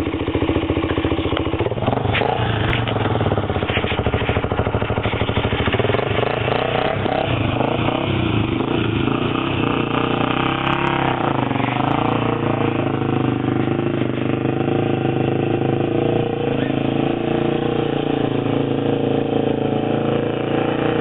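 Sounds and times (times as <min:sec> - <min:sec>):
quad bike engine revving: 0:00.0 - 0:21.0.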